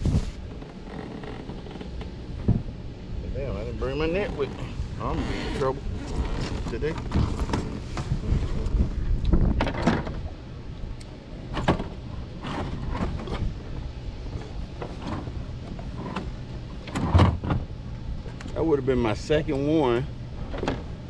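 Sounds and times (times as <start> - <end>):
wind buffeting microphone: 0.0 - 1.0, 1.6 - 18.5.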